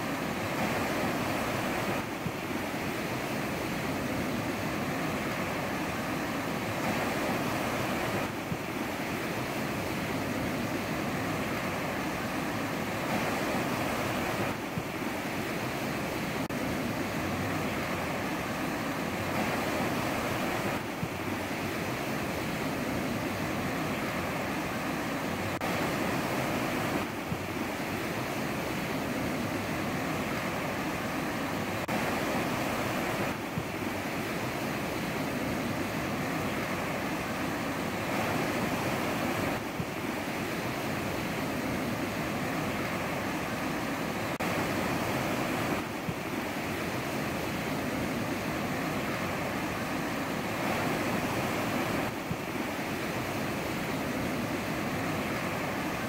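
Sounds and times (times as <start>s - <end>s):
ocean surf washing onto shore: 0.0s - 56.0s.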